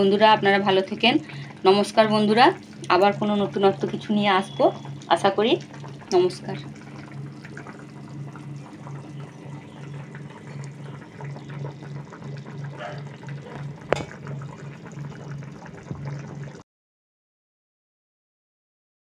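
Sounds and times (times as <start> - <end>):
curry bubbling in a pan: 0.0 - 16.6
low pulsing hum: 0.0 - 16.6.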